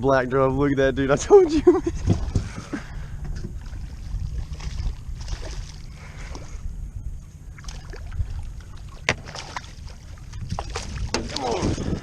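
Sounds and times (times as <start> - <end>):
wind rumbling on microphone: 0.0 - 12.0
water sloshing and splashing: 1.4 - 6.6, 7.5 - 12.0.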